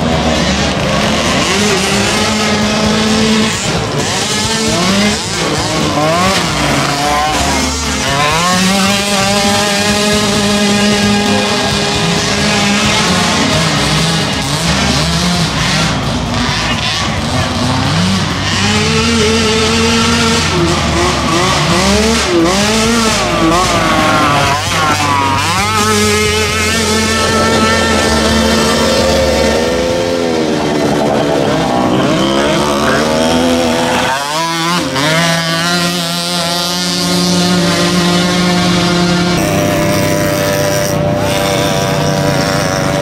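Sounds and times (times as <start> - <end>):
mini atv engines revving: 0.0 - 43.0.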